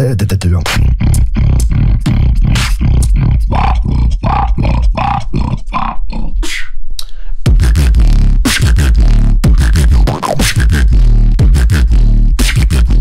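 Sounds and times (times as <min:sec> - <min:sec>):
beatboxing: 0:00.0 - 0:13.0.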